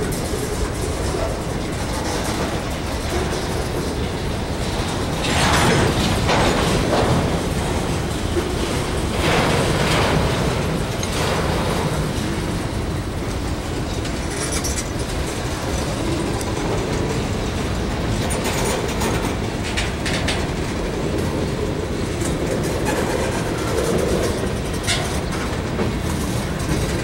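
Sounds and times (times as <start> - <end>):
freight train rumbling past: 0.0 - 27.0
wheel-on-rail noise: 0.0 - 27.0.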